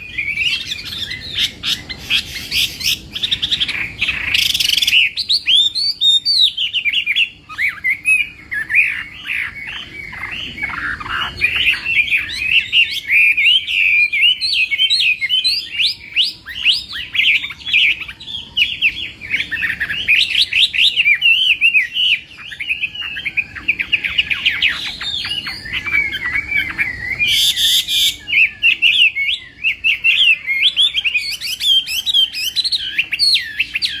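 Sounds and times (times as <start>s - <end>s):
bird singing whistled trills: 0.0s - 34.0s.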